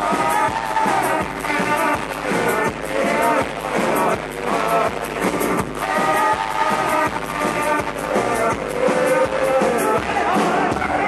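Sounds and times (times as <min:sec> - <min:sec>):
drums keeping a steady beat: 0:00.0 - 0:11.0.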